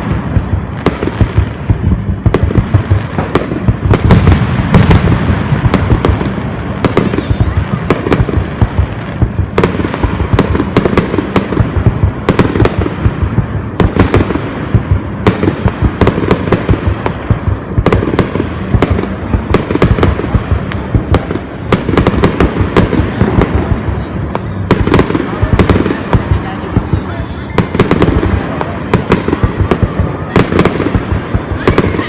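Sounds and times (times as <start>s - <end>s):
fireworks booms and cracks: 0.0s - 32.0s.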